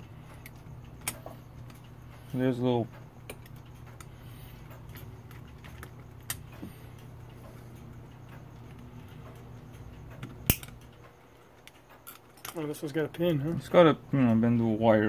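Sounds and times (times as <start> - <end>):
steady low hum: 0.0 - 15.0
metallic clicks from clock parts: 0.3 - 13.6.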